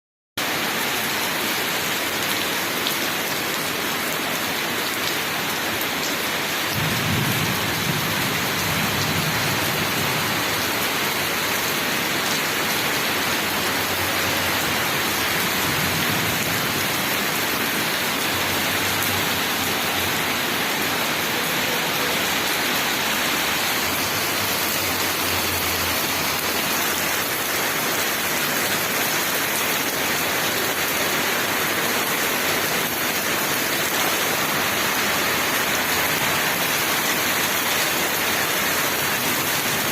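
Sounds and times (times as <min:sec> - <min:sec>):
heavy rain falling: 0:00.4 - 0:39.9.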